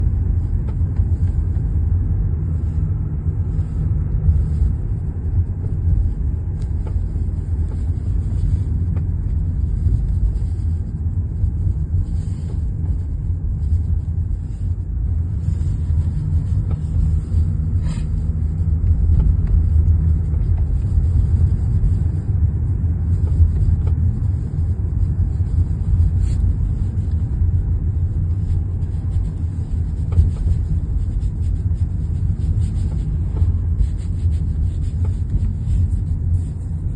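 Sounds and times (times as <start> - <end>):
road rumble: 0.0 - 36.9.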